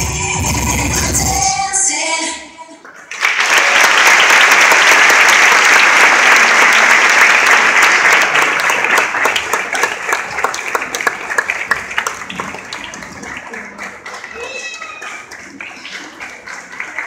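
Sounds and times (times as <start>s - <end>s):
audience applause: 2.8s - 17.0s.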